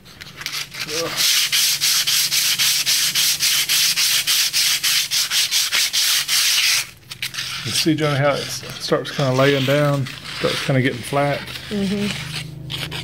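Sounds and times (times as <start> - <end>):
sandpaper scratching on metal: 0.3 - 13.0.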